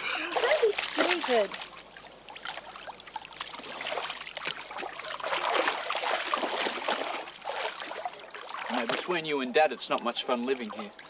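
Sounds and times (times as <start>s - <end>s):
pool water splashing and lapping: 0.0s - 11.0s.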